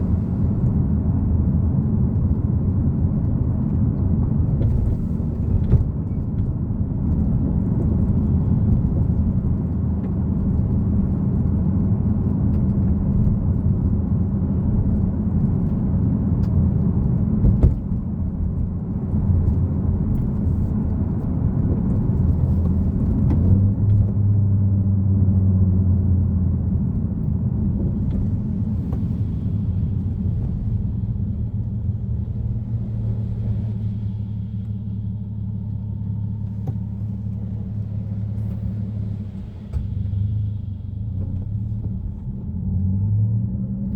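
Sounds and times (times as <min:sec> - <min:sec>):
car engine running: 0:00.0 - 0:42.9
road noise: 0:00.0 - 0:43.9.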